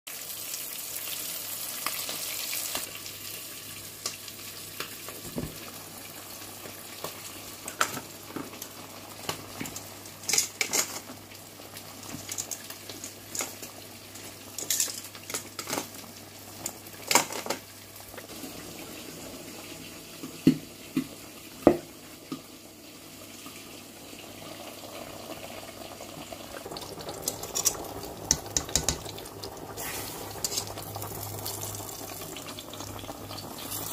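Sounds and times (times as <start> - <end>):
fish sizzling in oil: 0.1 - 33.9
pot of vegetables boiling: 0.1 - 33.9.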